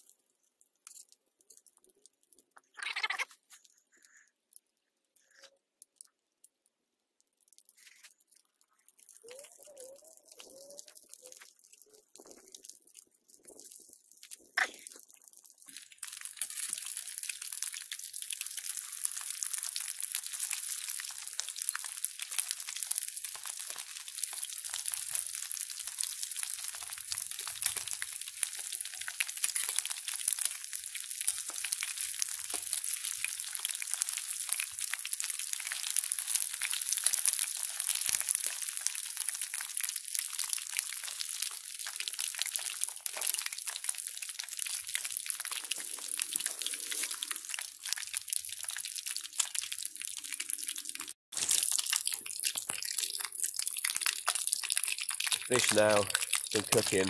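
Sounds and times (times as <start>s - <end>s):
fish sizzling in hot oil: 10.3s - 57.0s.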